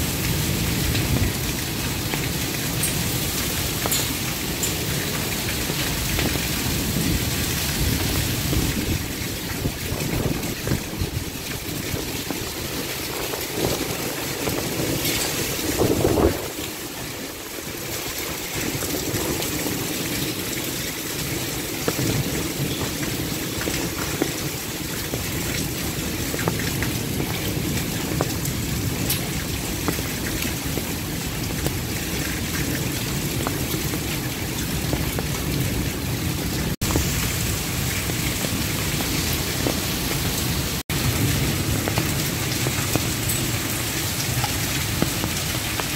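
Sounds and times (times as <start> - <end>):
heavy rain pouring: 0.0 - 45.9
raindrop hits ticking: 0.6 - 16.8, 18.1 - 35.8, 36.8 - 45.9.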